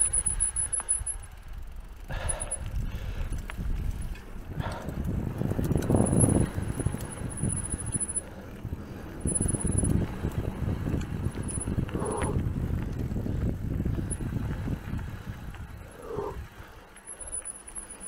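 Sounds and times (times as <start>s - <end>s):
bike tyres rumbling on dirt: 0.0s - 18.0s
wind on microphone: 2.1s - 16.6s.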